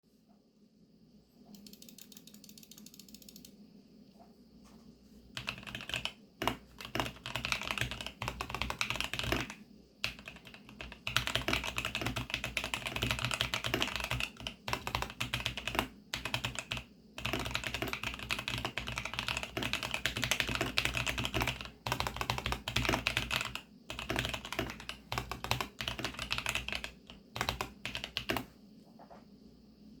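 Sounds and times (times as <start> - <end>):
mechanical keyboard typing: 1.6 - 3.5, 5.4 - 28.5.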